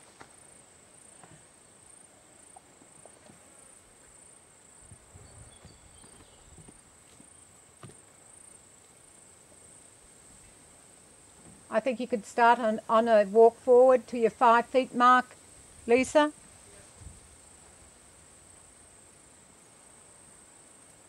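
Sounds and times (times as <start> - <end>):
high insect trill pulsing: 0.0 - 21.0.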